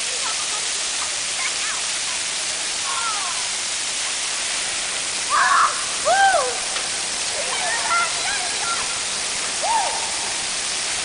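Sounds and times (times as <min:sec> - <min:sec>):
water fountain splashing: 0:00.0 - 0:11.0.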